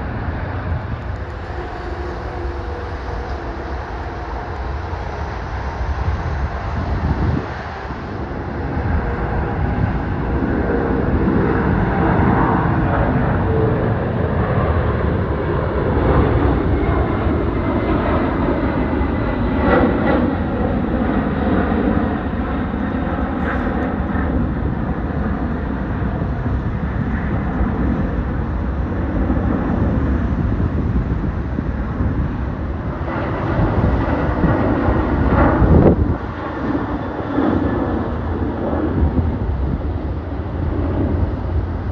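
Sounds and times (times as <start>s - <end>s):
jet airliner engines roaring: 0.0s - 41.9s.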